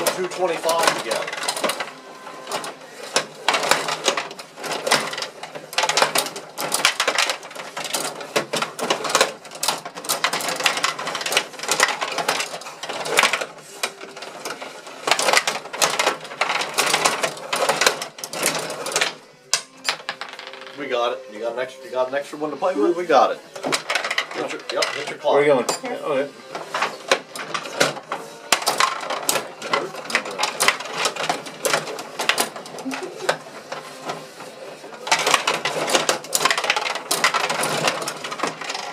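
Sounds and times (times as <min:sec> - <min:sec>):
plastic rods clattering: 0:00.0 - 0:38.9.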